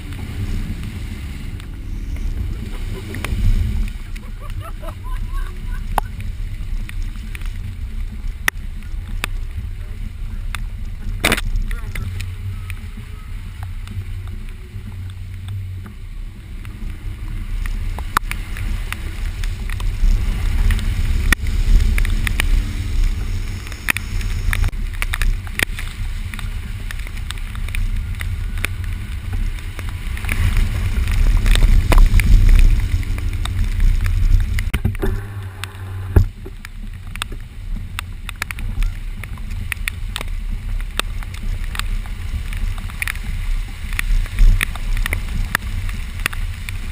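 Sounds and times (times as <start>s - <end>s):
engine and road rumble in cabin: 0.0s - 46.9s
knocks and clicks from rough ground: 0.0s - 46.9s.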